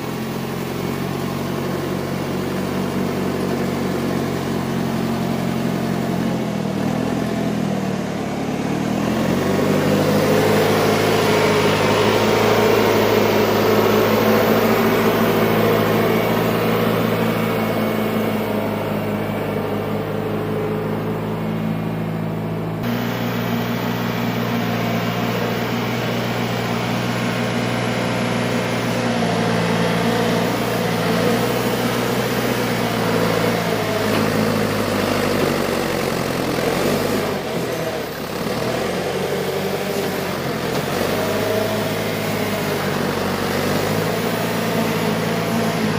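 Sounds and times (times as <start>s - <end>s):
backhoe diesel engine running: 0.0s - 45.9s.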